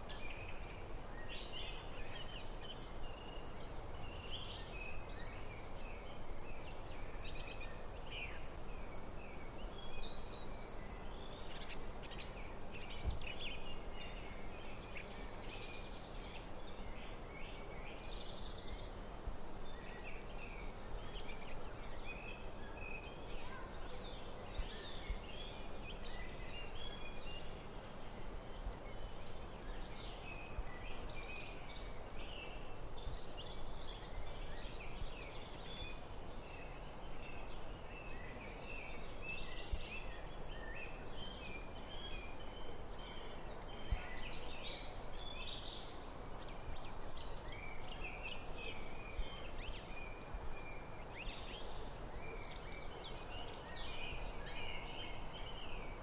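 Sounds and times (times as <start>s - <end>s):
low outdoor background noise: 0.0s - 56.0s.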